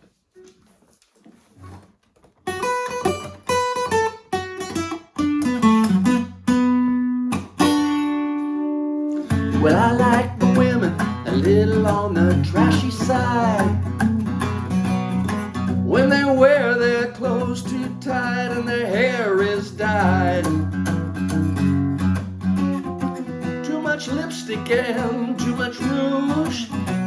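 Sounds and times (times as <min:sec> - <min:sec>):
acoustic guitar plucked notes: 0:02.6 - 0:27.0.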